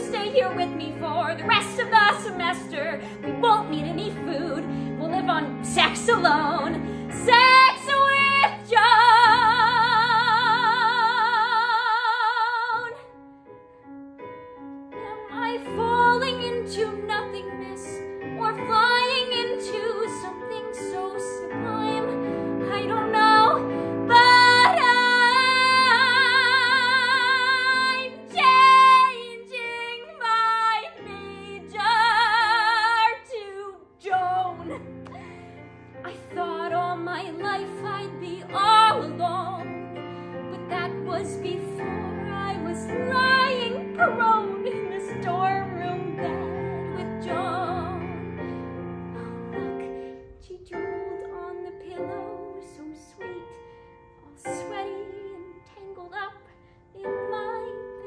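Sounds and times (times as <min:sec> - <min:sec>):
woman singing: 0:00.0 - 0:13.2, 0:15.0 - 0:35.3, 0:36.0 - 0:48.3, 0:49.1 - 0:58.0
piano accompaniment: 0:00.0 - 0:58.0.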